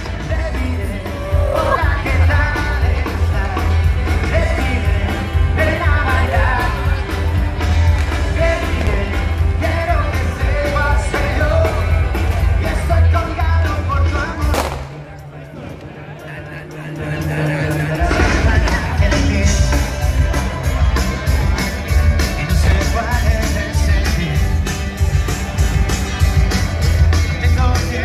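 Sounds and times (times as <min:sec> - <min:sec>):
person singing: 0:00.0 - 0:14.5, 0:16.2 - 0:24.6
live band music: 0:00.0 - 0:15.5, 0:16.2 - 0:28.0.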